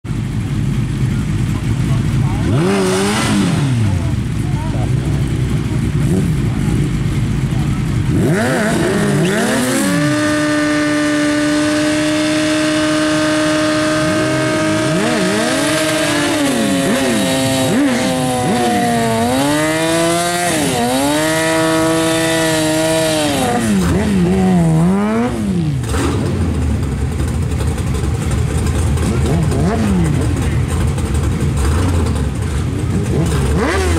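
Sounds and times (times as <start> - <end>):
motorcycle engine revving: 0.0 - 33.9
motorcycle tyre burnout: 0.2 - 33.9.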